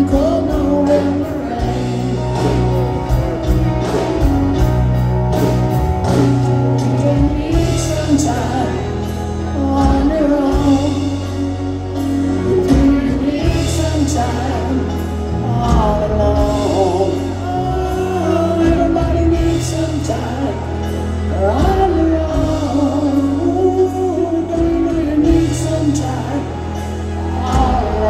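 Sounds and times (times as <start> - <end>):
man singing: 0.0 - 3.7, 6.1 - 28.0
grand piano: 0.0 - 28.0.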